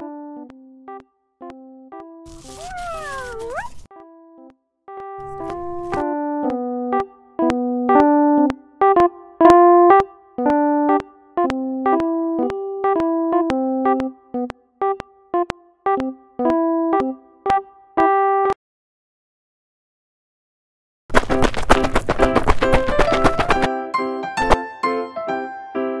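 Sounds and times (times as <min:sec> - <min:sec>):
piano-like keyboard melody: 0:00.0 - 0:18.6, 0:22.6 - 0:26.0.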